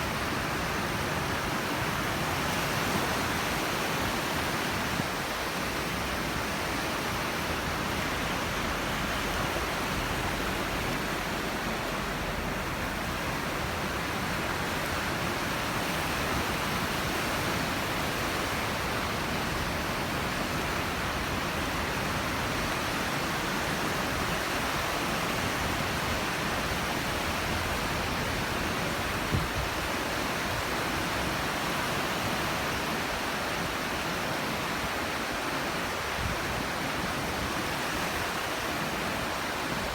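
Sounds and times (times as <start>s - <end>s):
sea surf washing ashore: 0.0s - 39.9s.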